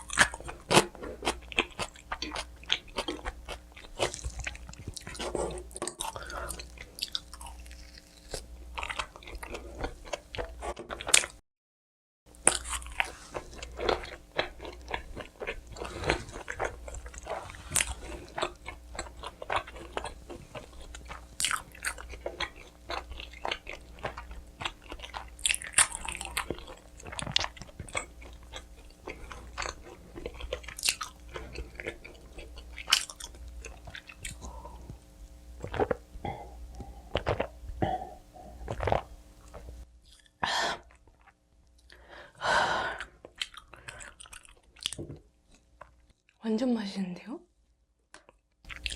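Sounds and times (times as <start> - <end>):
crunchy pizza chewing: 0.0 - 11.4, 12.4 - 41.9, 43.0 - 46.3, 48.2 - 48.9.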